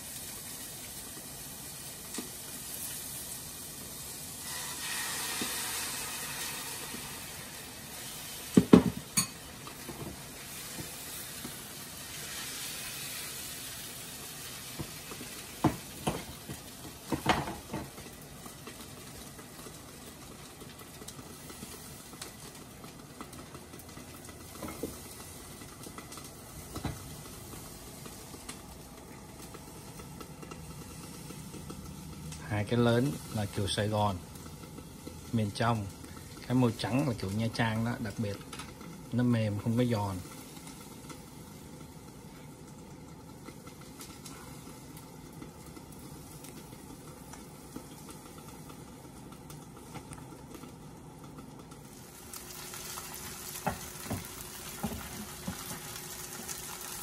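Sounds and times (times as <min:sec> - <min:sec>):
batter sizzling in frying pans: 0:00.0 - 0:57.0.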